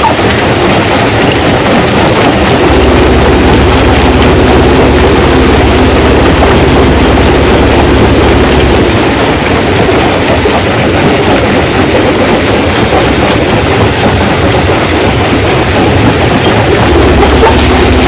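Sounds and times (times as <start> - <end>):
low machine hum: 1.9 - 18.0.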